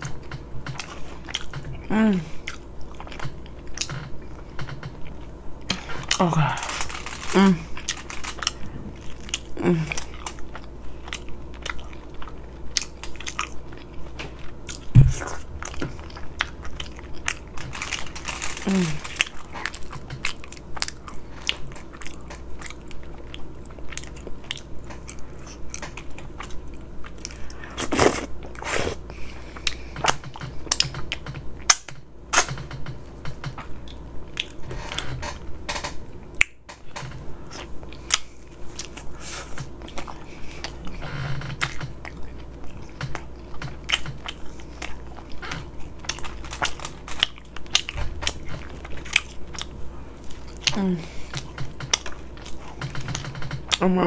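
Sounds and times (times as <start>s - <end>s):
person chewing and smacking food: 0.0s - 54.0s.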